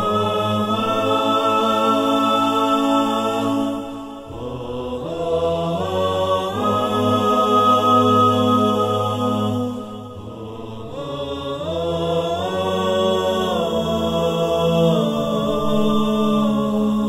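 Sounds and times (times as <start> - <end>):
low vocal drone: 0.0 - 17.0
voices chanting long notes: 0.0 - 17.0.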